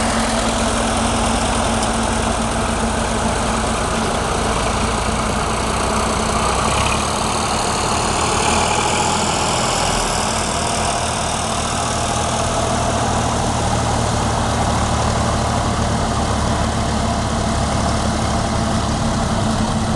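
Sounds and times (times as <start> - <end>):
tractor engines running: 0.0 - 19.9.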